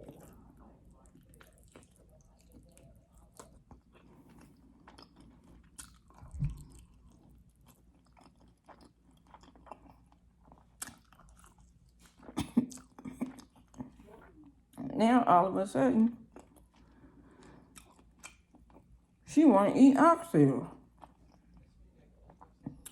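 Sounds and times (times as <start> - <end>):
wet chewing and mouth smacks: 0.0 - 14.0, 16.3 - 19.0, 20.9 - 22.9.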